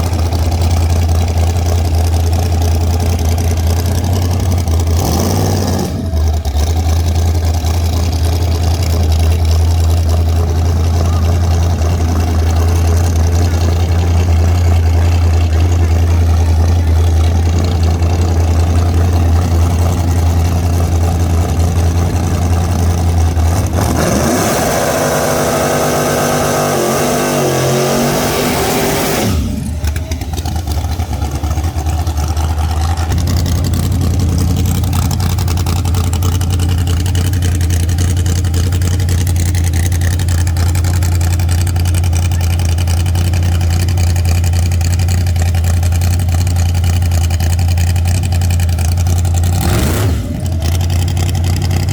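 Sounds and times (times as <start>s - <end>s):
car engine revving: 0.0s - 51.9s
car engines rumbling: 0.0s - 51.9s.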